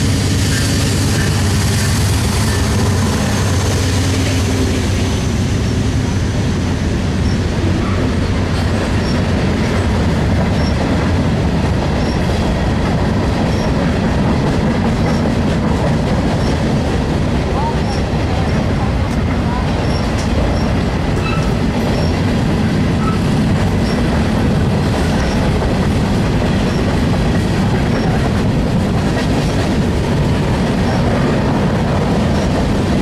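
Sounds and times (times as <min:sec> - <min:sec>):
diesel locomotive rumble: 0:00.0 - 0:33.0
train wheels clickety-clack: 0:00.0 - 0:33.0.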